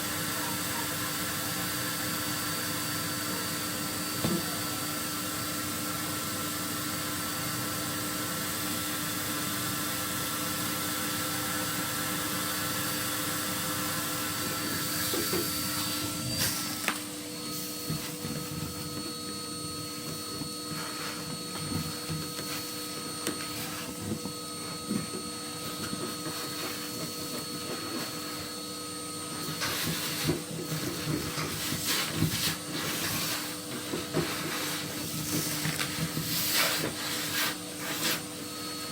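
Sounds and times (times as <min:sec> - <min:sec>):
vacuum cleaner motor whining: 0:00.0 - 0:38.9.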